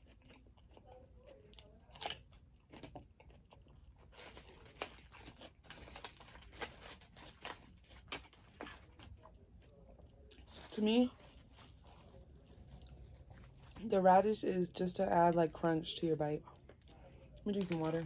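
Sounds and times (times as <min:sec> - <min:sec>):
crunching and chewing radish: 0:00.0 - 0:18.0.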